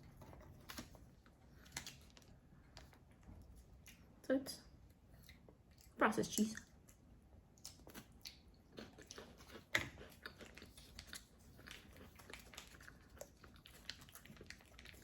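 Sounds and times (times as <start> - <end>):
chewing and crunching crackers: 0.0 - 15.0.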